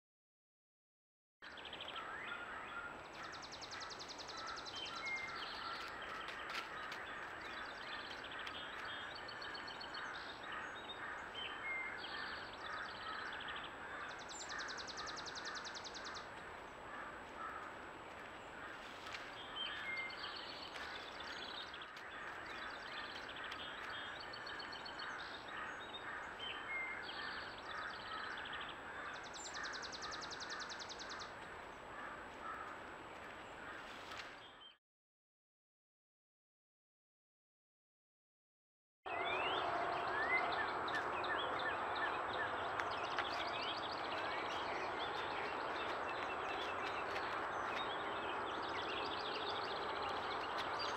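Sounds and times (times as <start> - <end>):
birds singing in dawn chorus: 1.4 - 34.8, 39.1 - 50.9.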